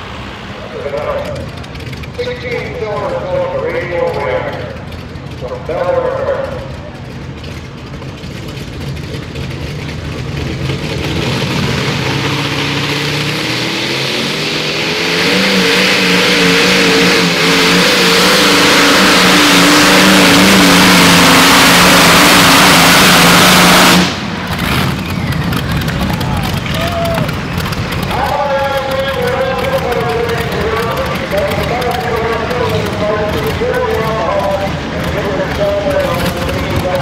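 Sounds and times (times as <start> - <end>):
tractor engine at full throttle: 0.0 - 37.0.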